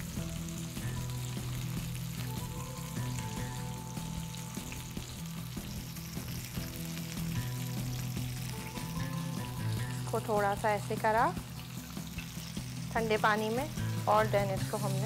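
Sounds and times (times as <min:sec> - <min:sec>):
chicken deep-frying in oil: 0:00.0 - 0:15.0
quiet background music: 0:00.0 - 0:15.0.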